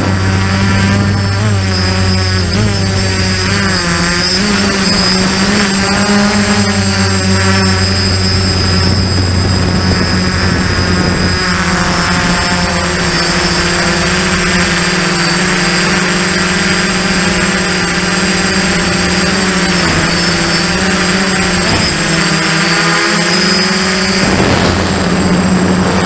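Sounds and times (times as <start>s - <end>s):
quadcopter motors humming and whining: 0.0s - 26.0s.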